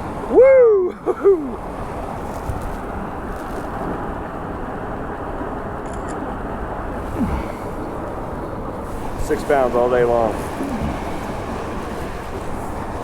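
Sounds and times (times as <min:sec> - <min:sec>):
wind buffeting microphone: 0:01.5 - 0:13.0.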